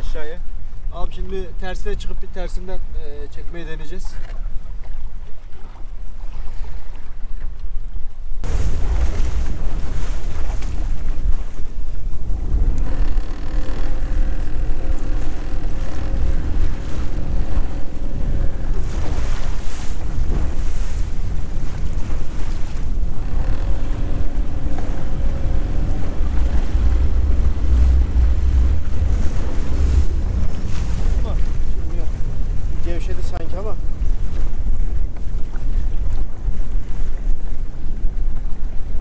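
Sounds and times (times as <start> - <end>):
boat engine humming: 0.0 - 39.0
wind buffeting microphone: 0.0 - 39.0.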